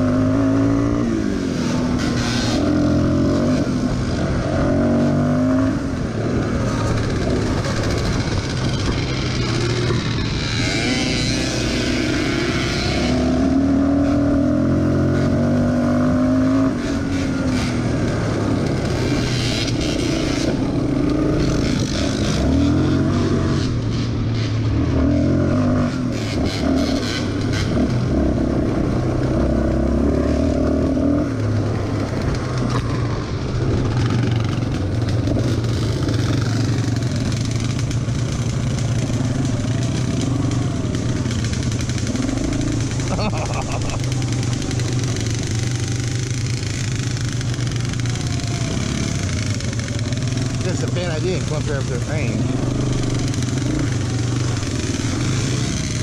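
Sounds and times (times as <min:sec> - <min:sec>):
atv engine revving: 0:00.0 - 0:56.0
knocks and rattles over rough ground: 0:01.7 - 0:56.0.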